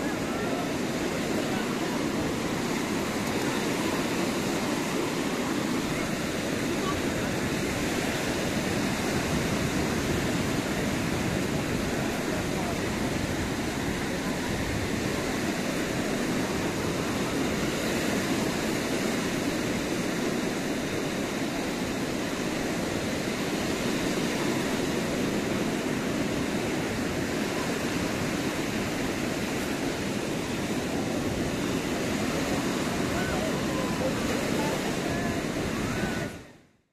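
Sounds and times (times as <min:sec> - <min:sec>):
small waves breaking on shore: 0:00.0 - 0:36.8.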